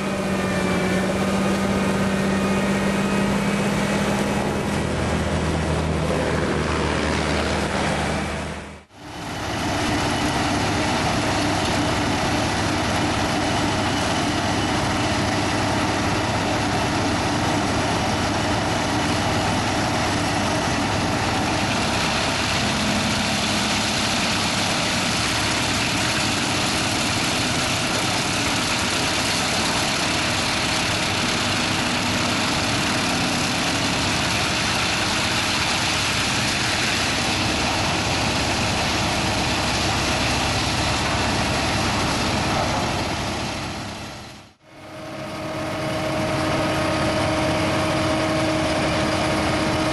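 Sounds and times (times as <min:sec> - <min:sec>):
heavy machinery engine under load: 0:00.0 - 0:49.9.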